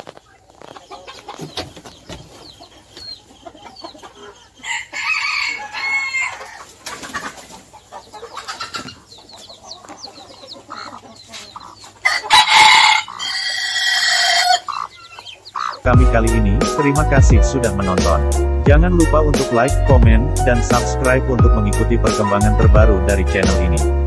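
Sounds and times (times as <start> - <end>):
chicks peeping: 0.0 - 23.9
chickens calling loudly: 0.0 - 24.0.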